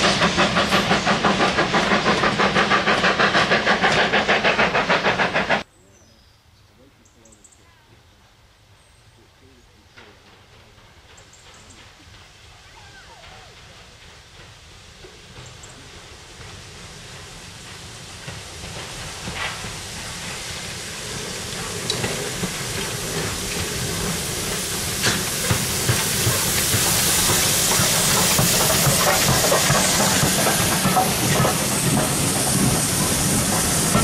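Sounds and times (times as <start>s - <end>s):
steam hissing: 0.0s - 5.7s, 9.2s - 34.0s
steam train approaching: 0.0s - 5.7s, 7.4s - 34.0s.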